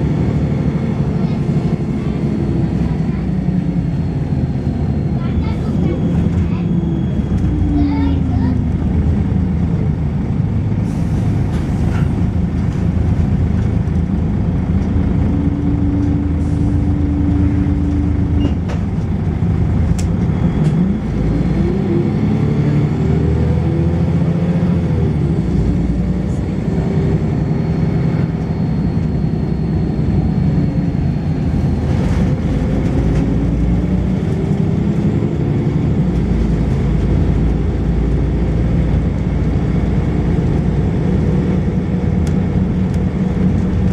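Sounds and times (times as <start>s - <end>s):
bus engine rumbling: 0.0s - 43.9s.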